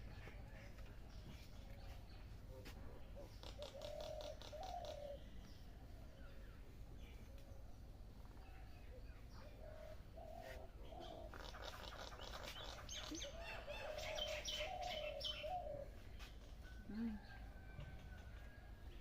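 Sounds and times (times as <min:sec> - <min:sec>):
birds chirping: 0:00.0 - 0:17.7.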